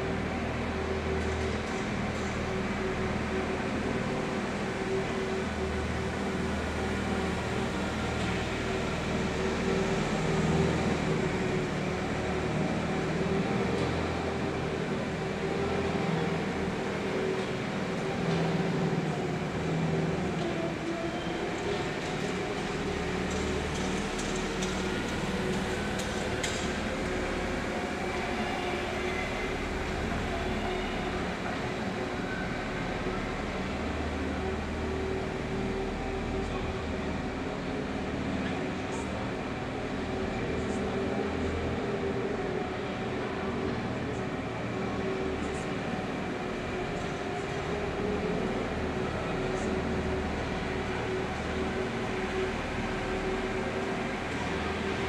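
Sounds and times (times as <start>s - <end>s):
ice resurfacer machine hum: 0.0s - 55.0s.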